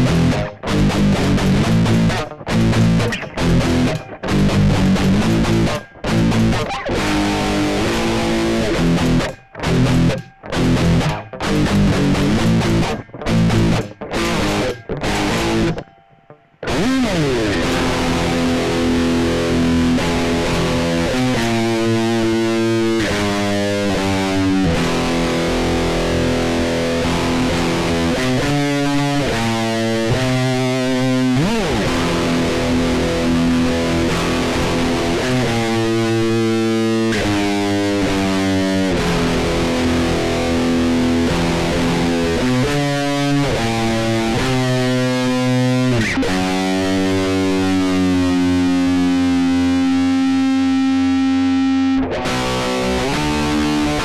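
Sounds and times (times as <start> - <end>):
distorted electric guitar chords: 0.0 - 54.0.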